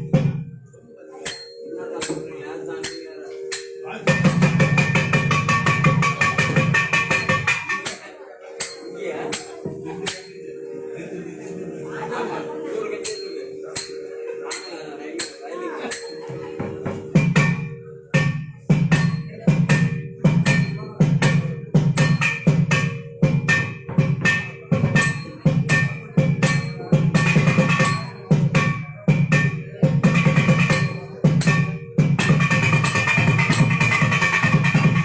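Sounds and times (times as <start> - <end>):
steady pitched tone: 0.0 - 35.0.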